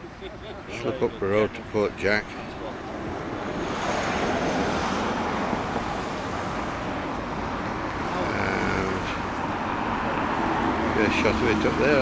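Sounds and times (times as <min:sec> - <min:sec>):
road vehicle rumble and hiss: 0:00.0 - 0:12.0.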